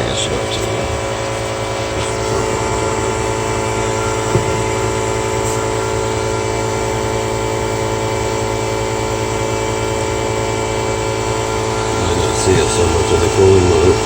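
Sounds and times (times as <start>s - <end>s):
heat pump humming: 0.0s - 14.0s.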